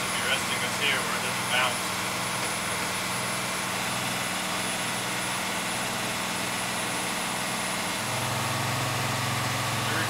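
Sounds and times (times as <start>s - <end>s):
bus diesel engine under load: 0.0s - 10.0s.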